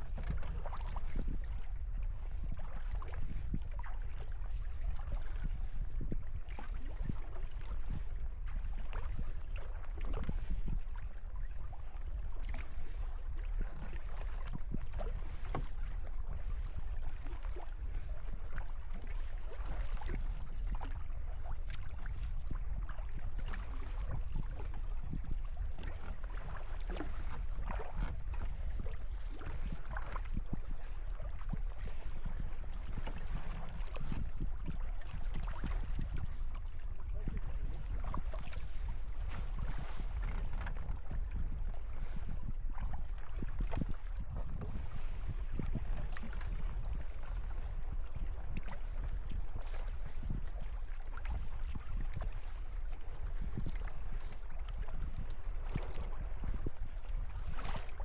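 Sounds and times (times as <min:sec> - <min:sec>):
paddle splashing in water: 0:00.0 - 0:01.7, 0:02.3 - 0:10.8, 0:11.4 - 0:58.0
wind rumble on microphone: 0:00.0 - 0:58.0.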